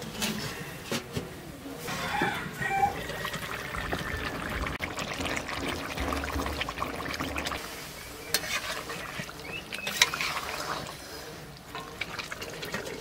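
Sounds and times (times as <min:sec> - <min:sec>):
curry bubbling and sizzling: 0:02.2 - 0:13.0.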